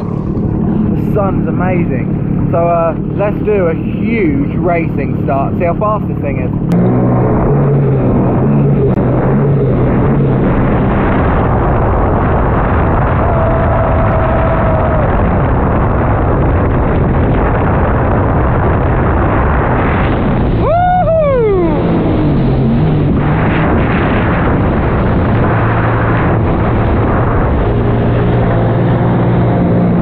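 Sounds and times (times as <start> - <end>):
jet ski engine: 0.0 - 30.0
rush of wind and water: 0.0 - 30.0.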